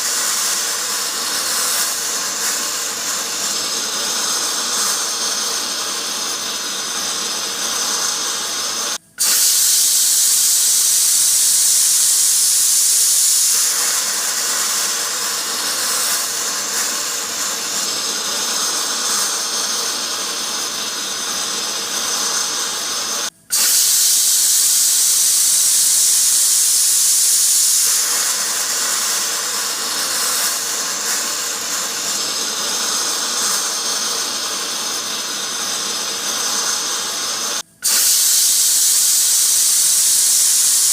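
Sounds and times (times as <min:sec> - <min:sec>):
pressure cooker steam hissing: 0:00.0 - 0:40.9.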